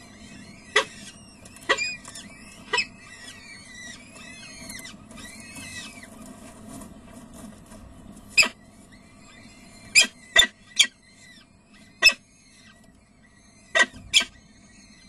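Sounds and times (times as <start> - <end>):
chicks begging cheeps: 0.0 - 5.9, 8.3 - 15.0.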